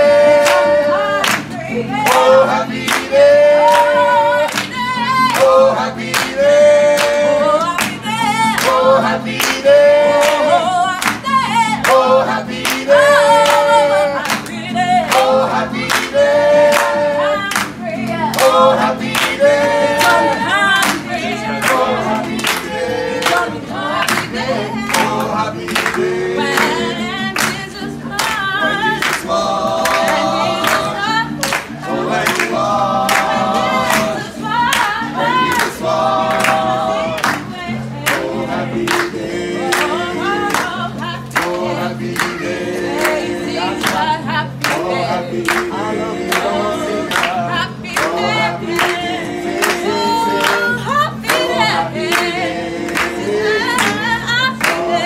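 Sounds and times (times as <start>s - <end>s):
choir singing in harmony: 0.0s - 55.0s
hand clapping: 0.2s - 55.0s.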